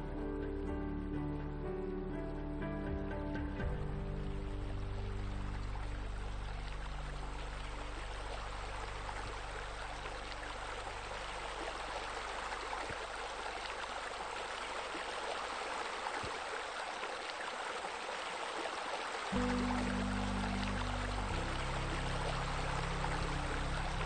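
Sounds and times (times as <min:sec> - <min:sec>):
water splashing into pool: 0:04.3 - 0:24.0.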